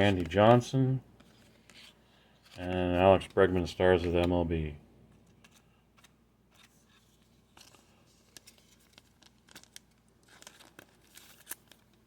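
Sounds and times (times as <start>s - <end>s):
cards clicking and rustling: 0.0s - 12.0s.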